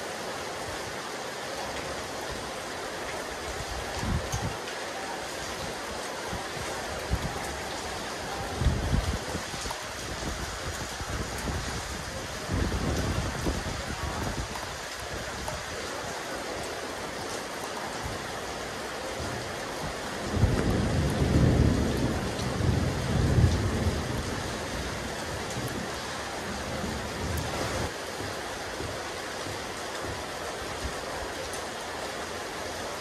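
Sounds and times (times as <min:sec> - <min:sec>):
rain on a rooftop: 0:00.0 - 0:33.0.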